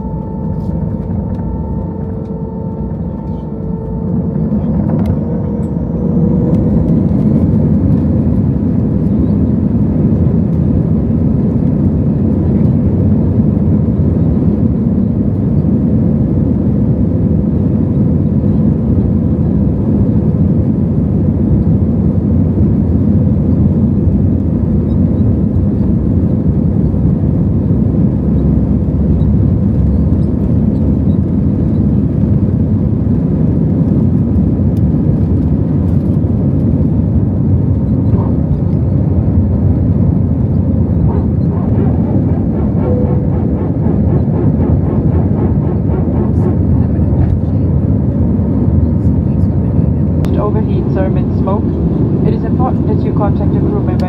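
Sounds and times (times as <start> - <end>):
jet engine and airflow in cabin: 0.0 - 54.0.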